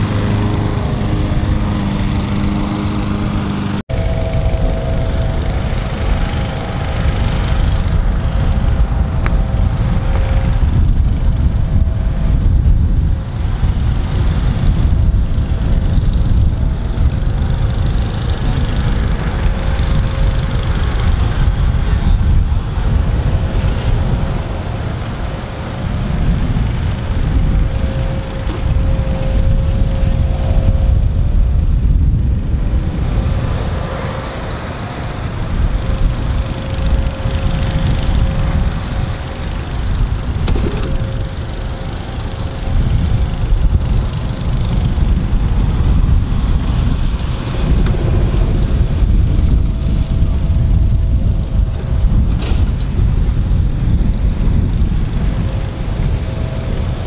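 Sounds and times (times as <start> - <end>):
mower engines humming: 0.0 - 57.0
wind rumble on microphone: 0.0 - 57.0.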